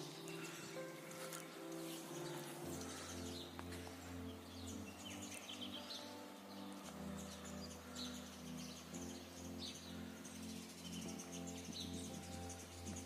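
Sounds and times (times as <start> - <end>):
soft background music chords: 0.0 - 13.0
songbirds chirping: 0.0 - 13.0.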